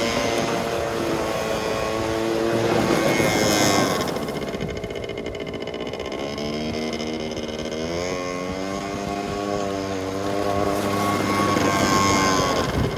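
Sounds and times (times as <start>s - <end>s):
two-stroke quad engine revving: 0.0s - 12.9s.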